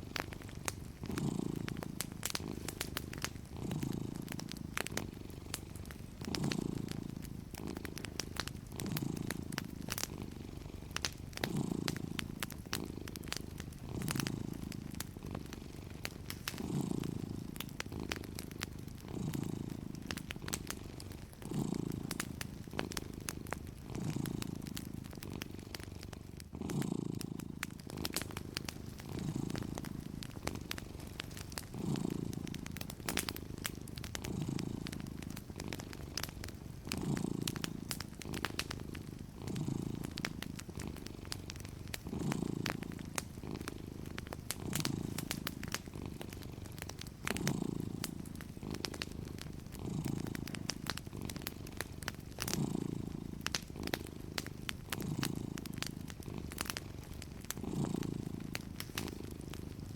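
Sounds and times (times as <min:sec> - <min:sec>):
cat purring: 0:00.0 - 0:59.9
wood fire crackling and popping: 0:00.0 - 0:59.9.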